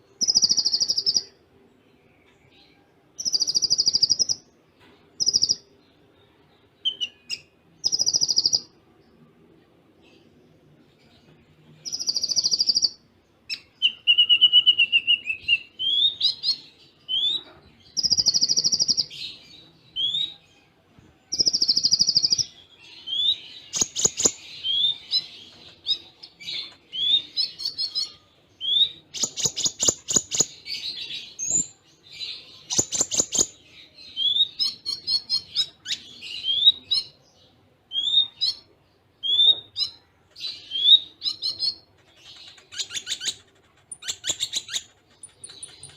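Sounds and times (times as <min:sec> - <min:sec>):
sunbird singing: 0:00.0 - 0:09.2, 0:10.1 - 0:20.7, 0:21.3 - 0:45.9.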